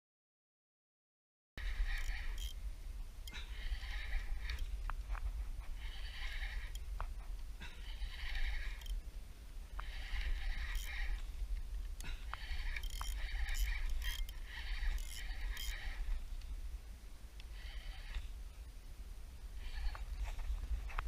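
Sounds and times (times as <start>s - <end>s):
wind rumble on microphone: 1.6s - 21.0s.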